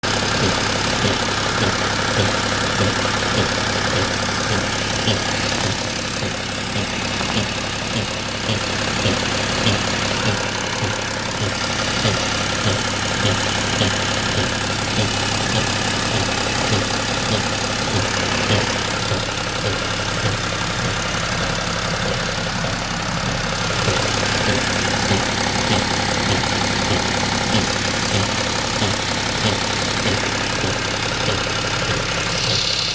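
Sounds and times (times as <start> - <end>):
extra noise from engine intake: 0.0 - 23.1, 23.7 - 32.9
diesel engine running with light knocks: 0.0 - 32.9.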